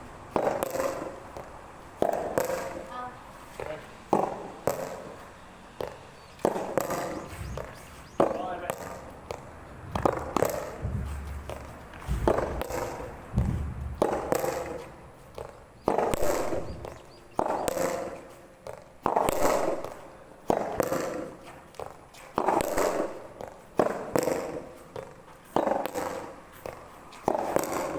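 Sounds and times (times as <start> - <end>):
tennis balls struck by rackets: 0.0 - 27.9.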